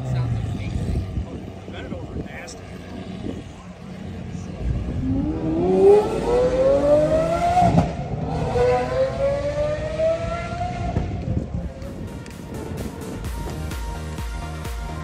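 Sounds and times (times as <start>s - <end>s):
car engine revving: 0.0s - 13.1s.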